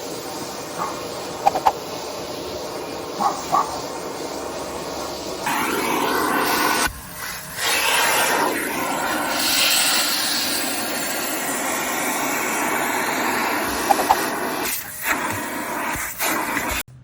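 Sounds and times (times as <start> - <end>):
vacuum cleaner running: 0.0 - 16.8.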